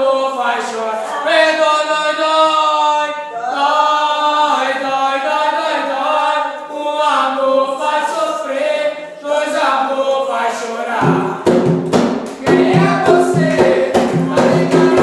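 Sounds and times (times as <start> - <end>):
group chanting in long notes: 0.0 - 15.0.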